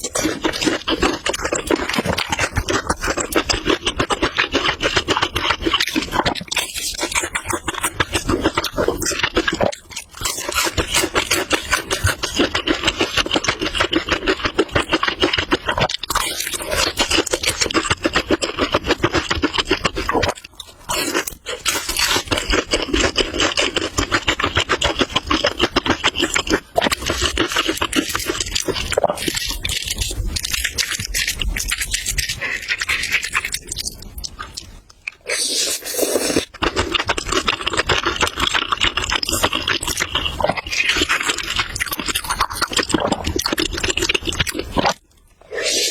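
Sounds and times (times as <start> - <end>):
noodles being chewed: 0.0 - 45.9.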